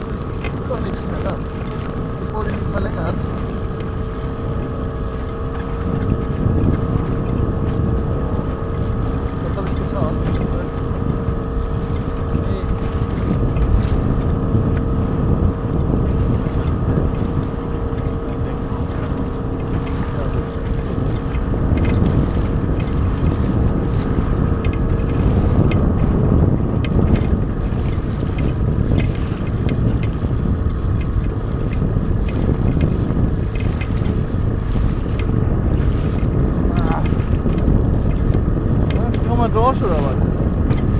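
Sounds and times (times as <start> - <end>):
outboard motor running: 0.0 - 40.9
wind buffeting microphone: 0.0 - 40.9.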